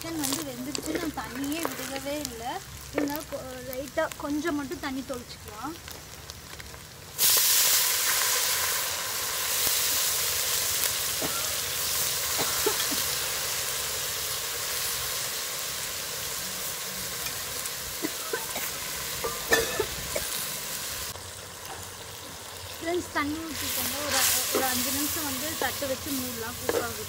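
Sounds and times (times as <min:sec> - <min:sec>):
loud sizzling and hissing steam: 0:00.0 - 0:27.0.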